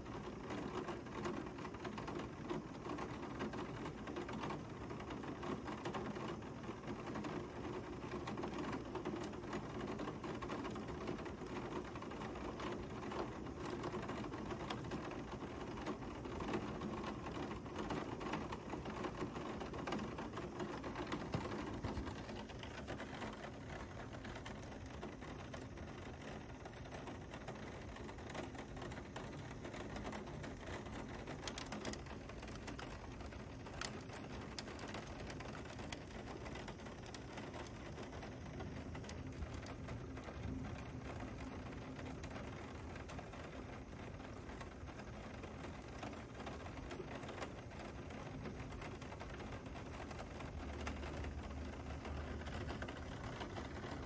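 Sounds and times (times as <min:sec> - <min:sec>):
raindrops ticking close by: 0:00.0 - 0:54.0
heavy rain pouring: 0:00.1 - 0:54.0.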